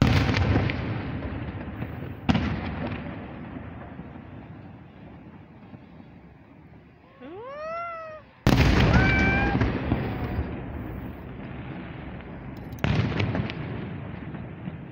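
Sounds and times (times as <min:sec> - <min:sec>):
firework shell booming: 0:00.0 - 0:05.9, 0:08.4 - 0:14.9.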